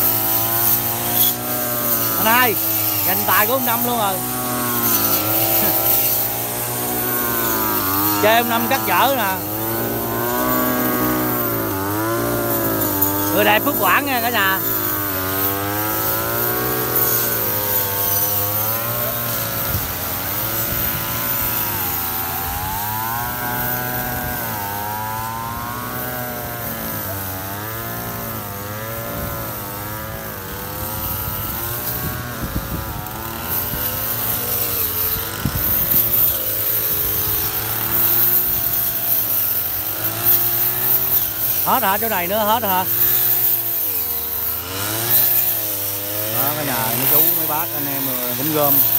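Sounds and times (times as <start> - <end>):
brush cutters running: 0.0 - 48.9.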